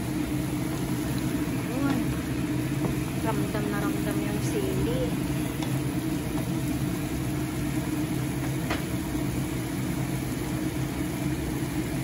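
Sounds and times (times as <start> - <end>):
curry simmering in a pan: 0.0 - 12.0
steady low hum: 0.0 - 12.0.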